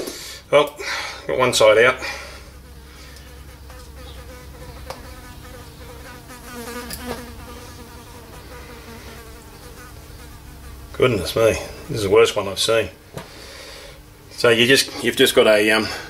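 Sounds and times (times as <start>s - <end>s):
buzzing hum: 0.0s - 16.0s.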